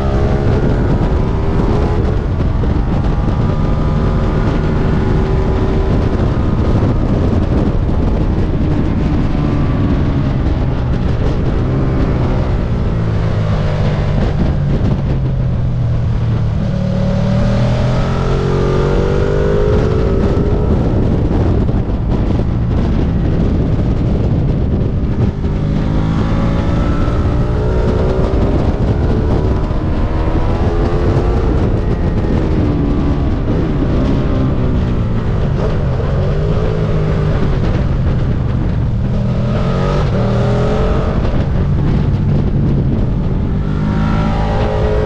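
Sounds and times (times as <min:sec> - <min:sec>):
motorcycle engine revving: 0:00.0 - 0:45.0
wind noise on microphone: 0:00.0 - 0:45.0.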